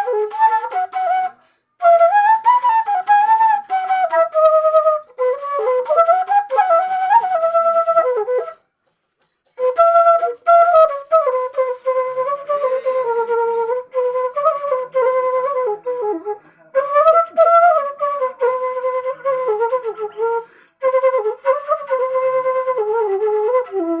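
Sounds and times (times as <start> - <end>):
flute solo melody: 0.0 - 8.6, 9.6 - 24.0.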